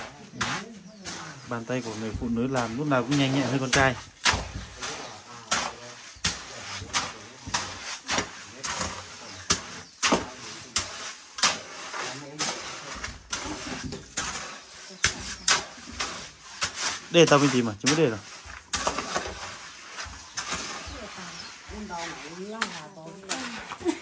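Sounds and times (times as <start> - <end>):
metal tool scraping wet cement: 0.0 - 24.0.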